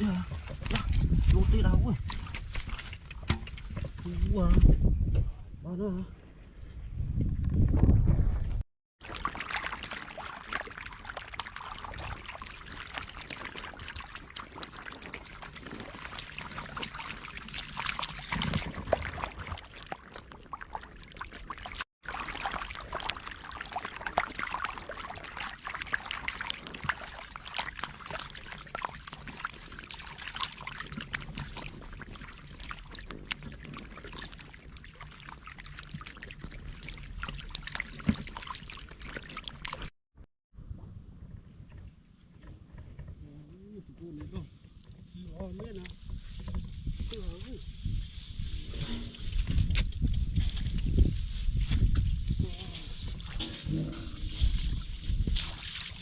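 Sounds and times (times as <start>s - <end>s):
shallow water trickling and splashing: 0.0s - 4.9s, 9.0s - 40.0s, 45.3s - 56.0s.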